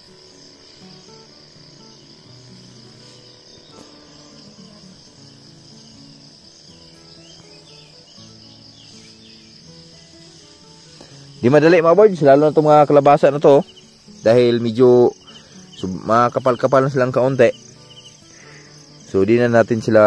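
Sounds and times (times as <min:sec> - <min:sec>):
insects chirring: 0:00.0 - 0:20.0
soft background music: 0:00.0 - 0:20.0.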